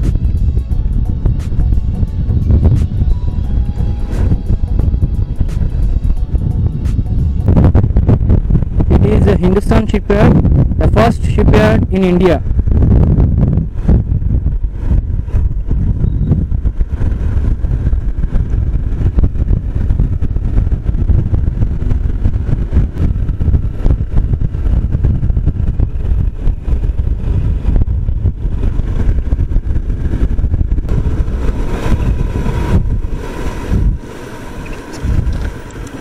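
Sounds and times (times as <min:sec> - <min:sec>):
motorcycle engine: 0:00.0 - 0:10.8, 0:12.4 - 0:36.0
wind buffeting microphone: 0:00.0 - 0:36.0.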